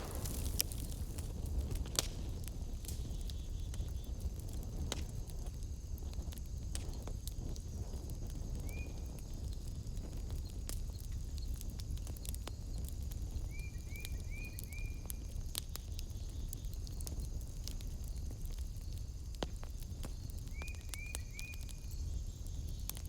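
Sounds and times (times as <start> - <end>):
low fire rumble: 0.0 - 23.0
wood fire crackling: 0.0 - 23.0.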